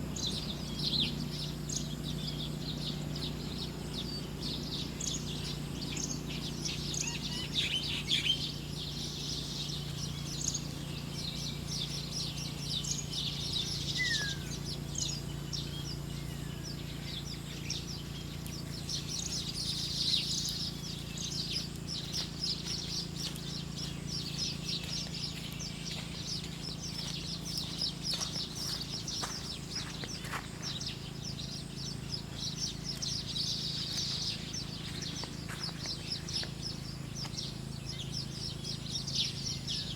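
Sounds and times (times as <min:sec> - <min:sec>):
low steady hum: 0:00.0 - 0:39.9
small birds chirping: 0:00.0 - 0:39.9.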